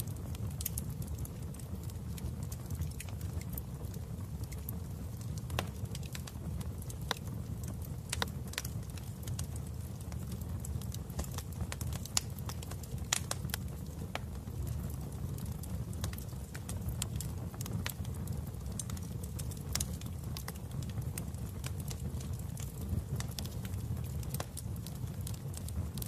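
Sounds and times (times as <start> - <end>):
fire rumbling: 0.0 - 26.0
wood crackling and popping: 0.0 - 26.0.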